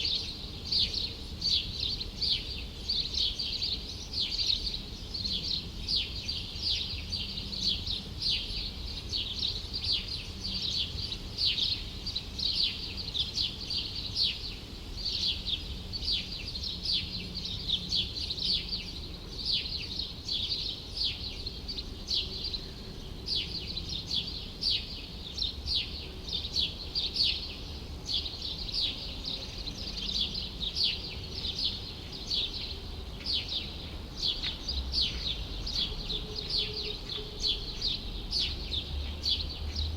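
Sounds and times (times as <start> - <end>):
city traffic hum: 0.0 - 39.9
small birds chirping: 0.0 - 39.9.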